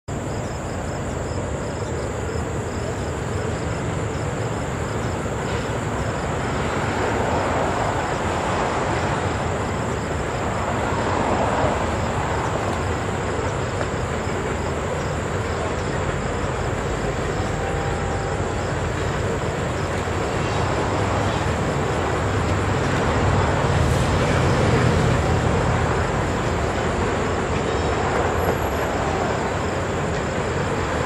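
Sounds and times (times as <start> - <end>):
distant freight train rumbling: 0.1 - 31.0.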